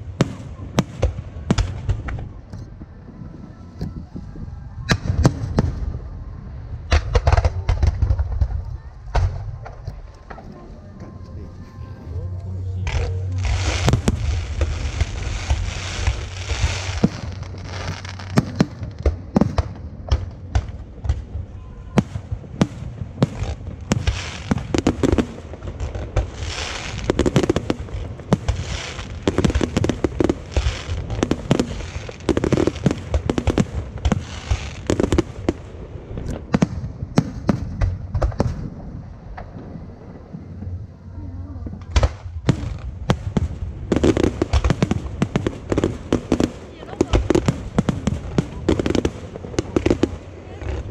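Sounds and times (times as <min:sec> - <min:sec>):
fireworks bangs and crackles: 0:00.0 - 0:12.1, 0:12.8 - 0:50.9.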